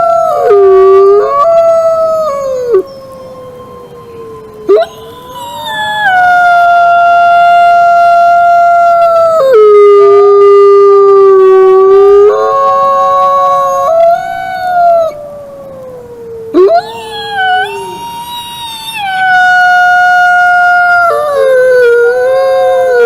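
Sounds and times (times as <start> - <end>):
wolves howling: 0.0 - 23.0.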